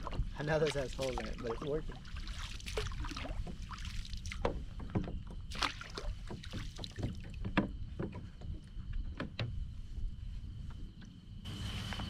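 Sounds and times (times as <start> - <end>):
water splashes and drips: 0.0 - 10.0.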